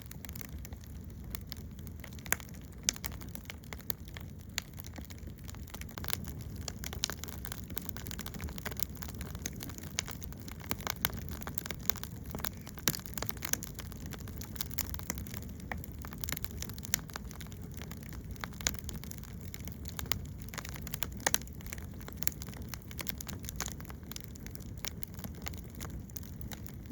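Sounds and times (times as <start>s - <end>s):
firewood crackling and popping: 0.0s - 26.9s.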